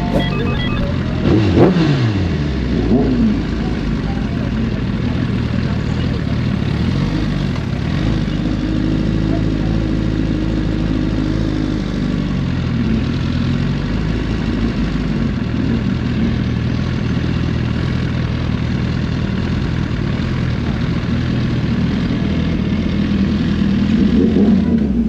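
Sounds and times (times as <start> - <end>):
motorcycle engine running at low revs: 0.0 - 25.0.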